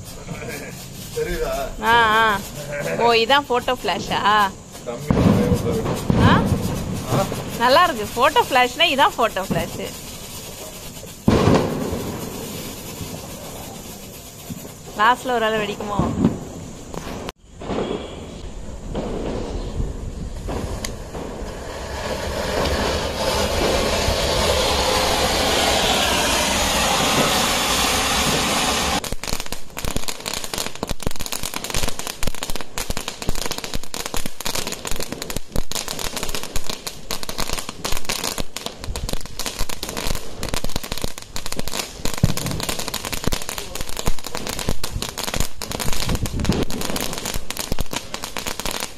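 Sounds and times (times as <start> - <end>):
fireworks crackling pops: 0.0 - 48.9
fireworks fizzing hiss: 0.0 - 48.9.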